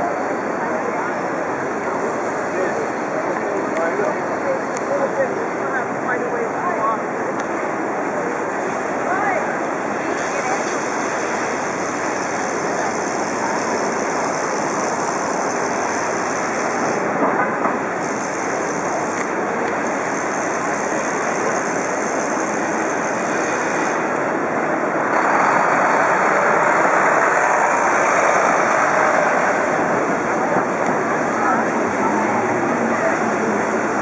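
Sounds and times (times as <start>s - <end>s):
city street traffic: 0.0s - 34.0s.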